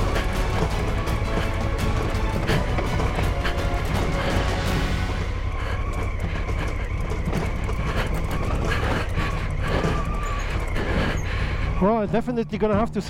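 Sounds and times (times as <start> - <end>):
motorcycle engine rumbling: 0.0 - 13.0
motorcycle suspension rattles: 0.0 - 13.0.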